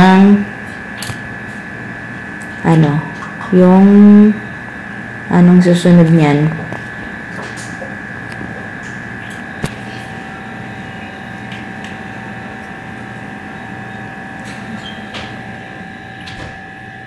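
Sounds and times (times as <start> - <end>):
appliance hum with high whine: 0.0 - 17.0.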